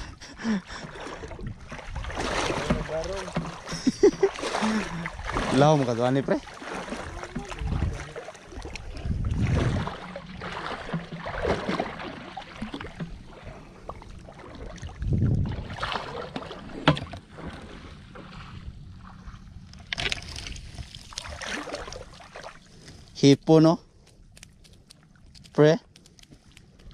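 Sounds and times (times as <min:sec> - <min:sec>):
water sloshing and splashing: 0:00.0 - 0:23.2, 0:24.0 - 0:26.9.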